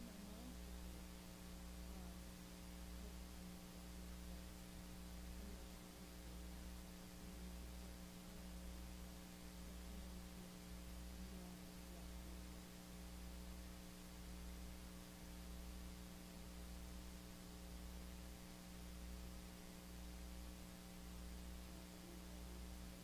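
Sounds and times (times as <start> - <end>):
electrical mains hum: 0.0 - 23.0
faint hiss: 0.0 - 23.0.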